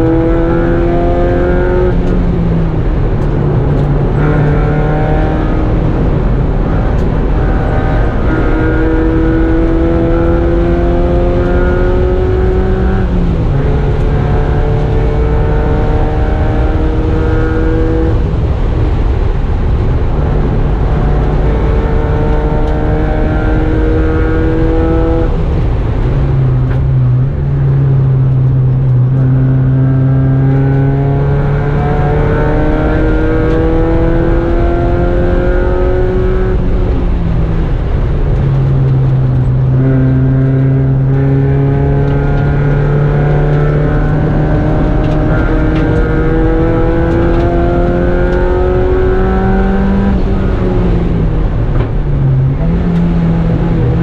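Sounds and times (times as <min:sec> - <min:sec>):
race car engine under hard throttle: 0:00.0 - 0:54.0
wind and road noise: 0:00.0 - 0:54.0.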